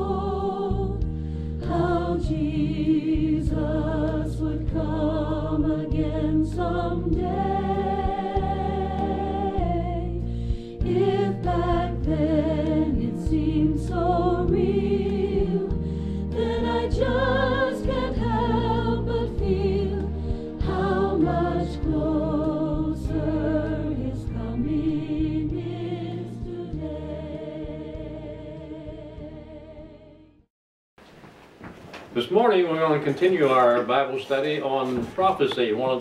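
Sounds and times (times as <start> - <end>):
choir singing held chords: 0.0 - 30.4.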